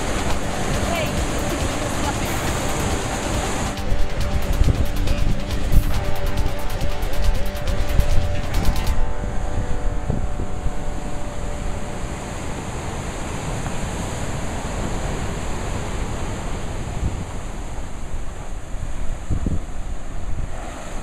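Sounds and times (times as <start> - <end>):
wind buffeting microphone: 0.0 - 20.6.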